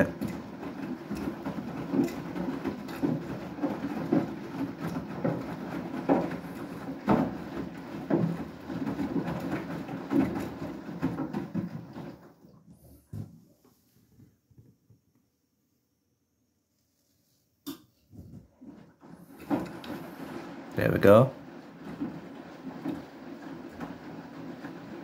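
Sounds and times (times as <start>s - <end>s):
washing machine drum tumbling: 0.0s - 13.4s, 18.1s - 25.0s
wet clothes sloshing and thudding: 0.0s - 13.7s, 18.1s - 25.0s.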